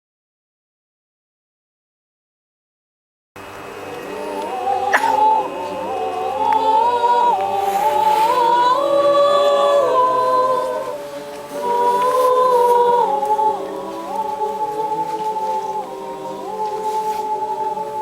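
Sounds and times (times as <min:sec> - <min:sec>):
choir singing in harmony: 0:03.4 - 0:18.0.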